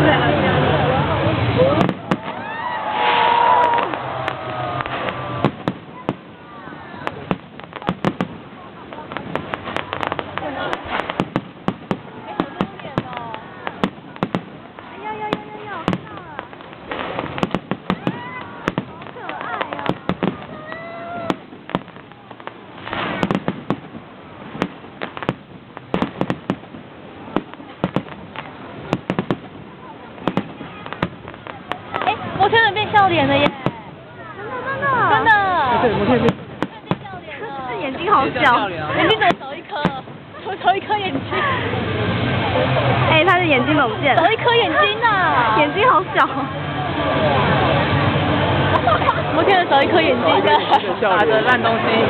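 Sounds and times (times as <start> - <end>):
crowd hubbub: 0.0 - 52.0
fireworks bangs and pops: 0.0 - 52.0
fireworks crackling: 0.0 - 52.0.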